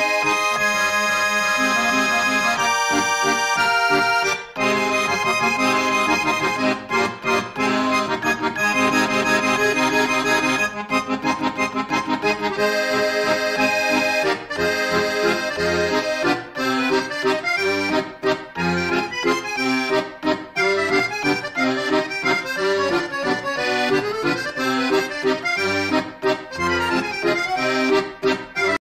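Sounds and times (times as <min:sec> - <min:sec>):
accordion tune with bass beat: 0:00.0 - 0:28.8.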